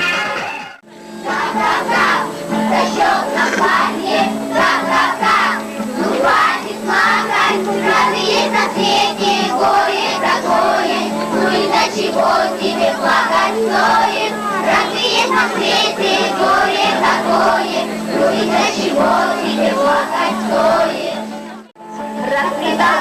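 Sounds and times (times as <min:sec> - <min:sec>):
children singing: 0:00.0 - 0:23.0
musical accompaniment: 0:00.0 - 0:23.0.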